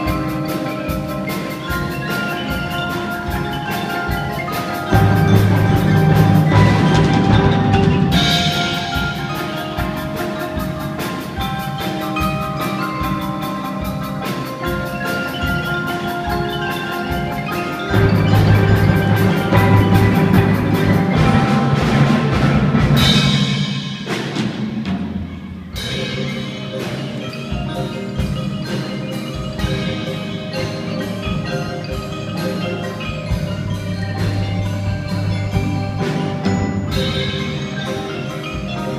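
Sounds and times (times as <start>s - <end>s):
marimba-like mallet notes: 0.0s - 38.9s.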